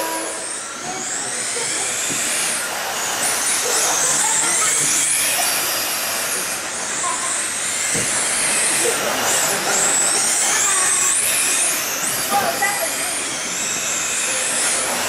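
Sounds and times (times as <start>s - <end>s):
remote control cars whining: 0.0s - 15.0s.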